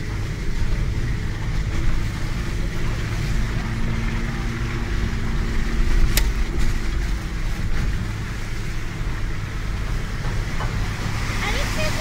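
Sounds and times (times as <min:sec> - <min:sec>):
vehicle engine rumbling from inside: 0:00.0 - 0:12.0.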